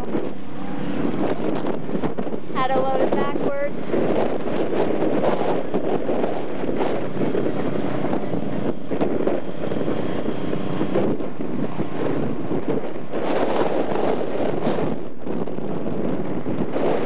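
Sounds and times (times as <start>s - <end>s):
faint vehicle engine running: 0.0s - 14.8s
wind buffeting microphone: 0.0s - 17.0s.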